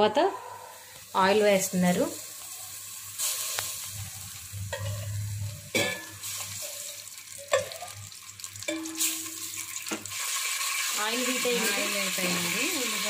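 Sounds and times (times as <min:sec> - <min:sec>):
oil sizzling: 0:00.7 - 0:13.0.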